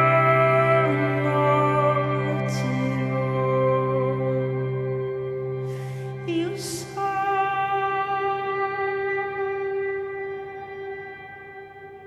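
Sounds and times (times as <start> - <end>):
slow sustained chords: 0.0 - 12.0.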